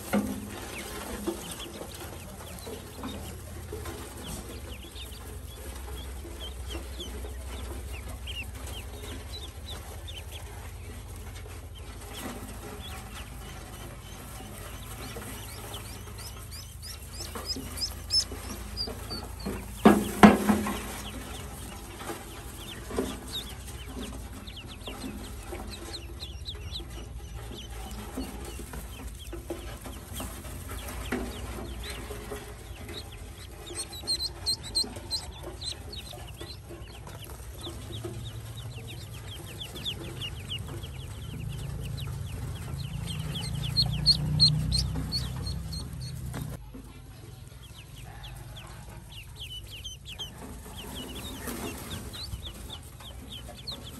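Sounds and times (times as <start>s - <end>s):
ducklings peeping: 0.0s - 53.9s.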